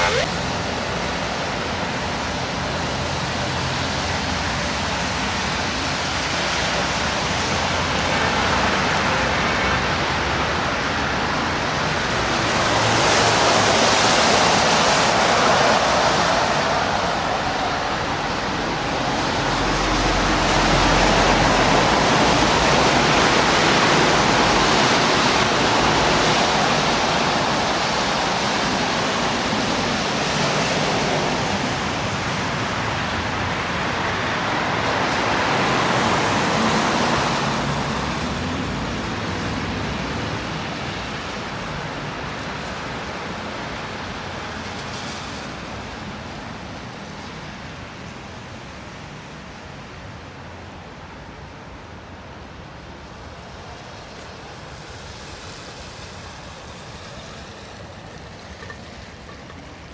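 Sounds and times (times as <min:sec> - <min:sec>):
city traffic rushing: 0:00.0 - 0:59.9
tyres hissing on wet road: 0:00.0 - 0:59.9.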